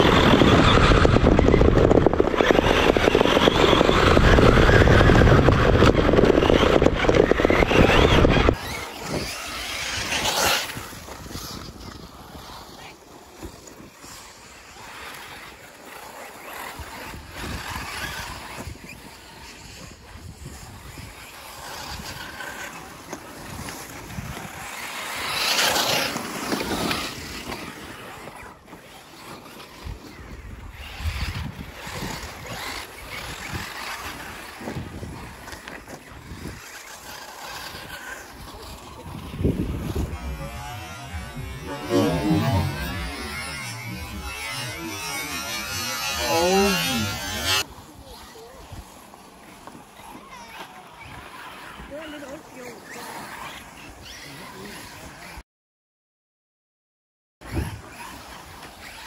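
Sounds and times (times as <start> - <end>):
electric rc cars on dirt: 0.0 - 55.4, 57.4 - 59.0.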